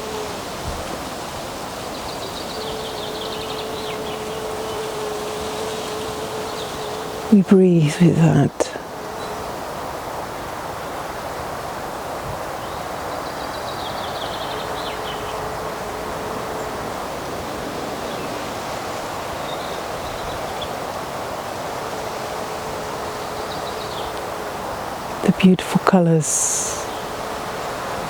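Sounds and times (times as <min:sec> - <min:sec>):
faint steady hum: 0:00.0 - 0:28.0
rushing woodland background noise: 0:00.0 - 0:28.0.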